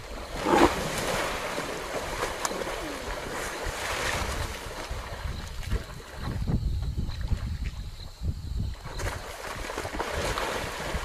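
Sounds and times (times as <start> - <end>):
water splashing and churning: 0.0 - 7.8, 8.7 - 11.0
wind buffeting microphone: 0.0 - 11.0.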